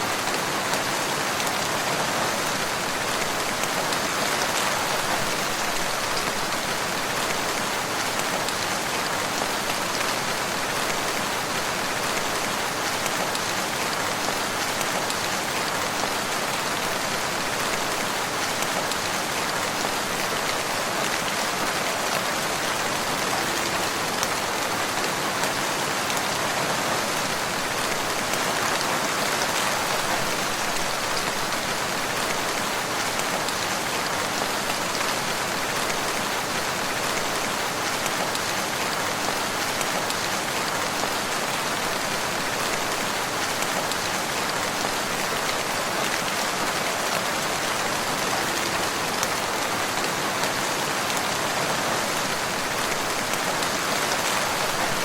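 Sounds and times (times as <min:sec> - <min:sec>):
rain pattering on surfaces: 0:00.0 - 0:55.0.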